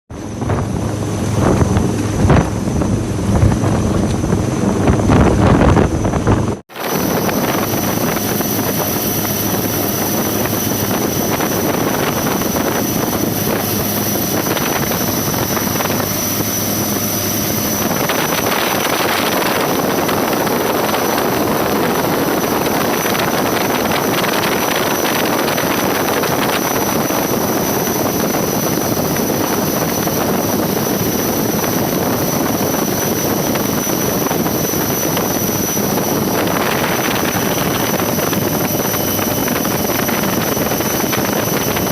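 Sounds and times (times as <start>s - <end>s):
helicopter rotor and engine: 6.7s - 41.9s
thin high whine: 6.7s - 41.9s.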